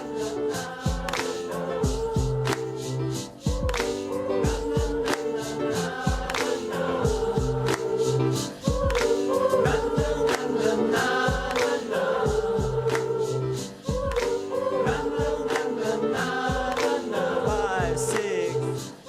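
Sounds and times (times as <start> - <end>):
choir singing a cappella: 0.0 - 19.0
hand percussion: 0.0 - 19.0
mouth percussion beat: 0.0 - 19.0.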